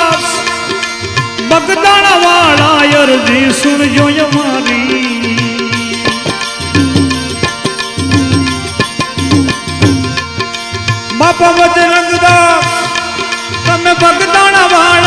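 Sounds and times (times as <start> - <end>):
hand drums playing rhythm: 0.0 - 15.0
melodic instrument long notes: 0.0 - 15.0.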